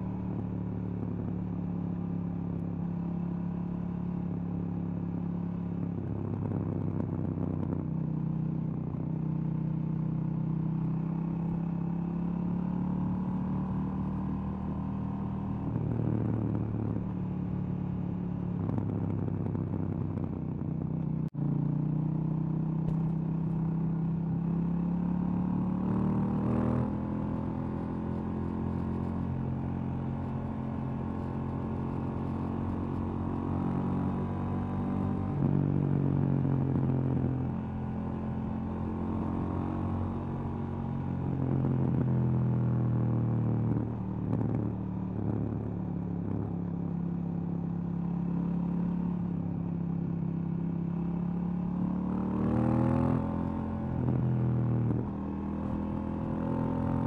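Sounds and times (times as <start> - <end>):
motorcycle engine revving: 5.1 - 57.0.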